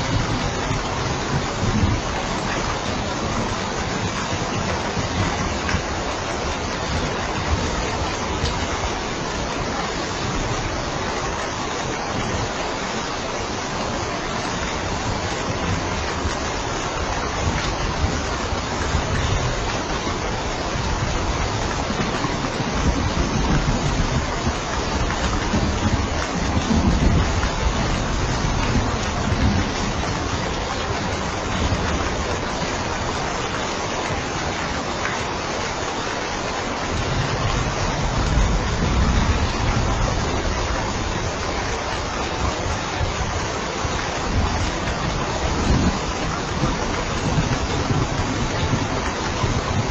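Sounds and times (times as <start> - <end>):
rain falling on a roof: 0.0 - 49.9.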